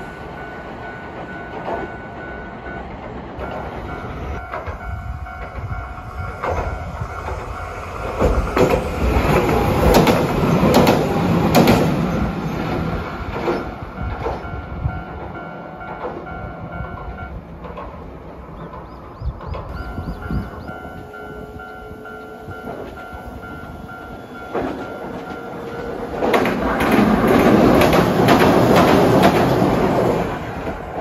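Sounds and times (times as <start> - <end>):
tram wheels clacking over rail joints: 0.0 - 31.0.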